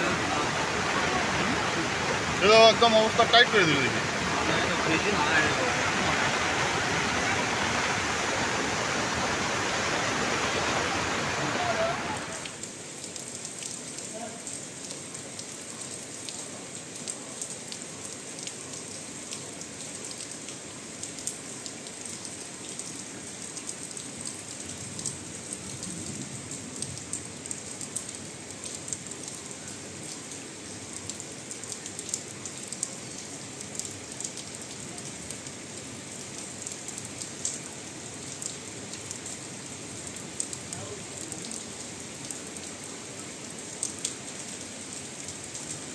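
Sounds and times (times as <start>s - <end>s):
heavy rain falling: 0.0s - 45.9s
raindrops ticking on surfaces: 0.0s - 45.9s.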